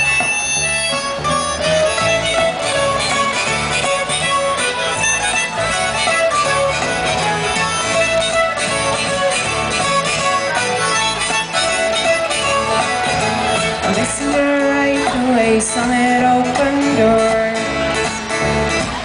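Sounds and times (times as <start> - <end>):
acoustic folk band playing: 0.0 - 19.0
acoustic guitar: 0.0 - 19.0
contrabass balalaika: 0.0 - 19.0.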